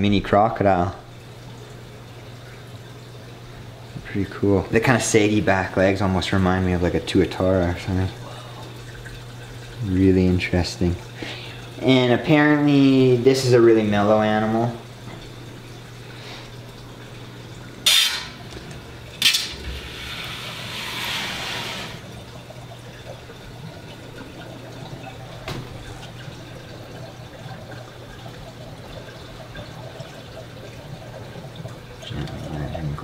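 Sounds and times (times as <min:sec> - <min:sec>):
water running through filter: 0:00.0 - 0:33.0.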